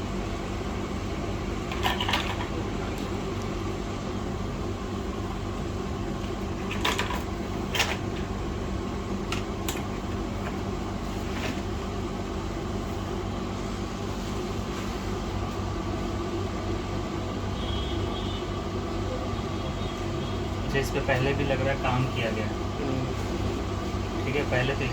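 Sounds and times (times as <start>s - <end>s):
electric fan hum: 0.0s - 24.9s.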